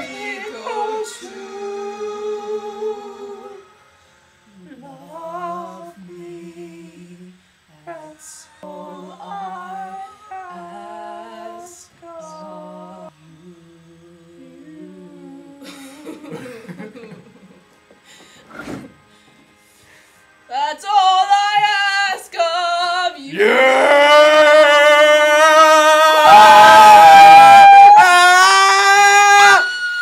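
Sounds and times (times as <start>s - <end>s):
person humming a slow tune: 0.0s - 3.7s, 4.4s - 18.3s, 22.3s - 30.0s.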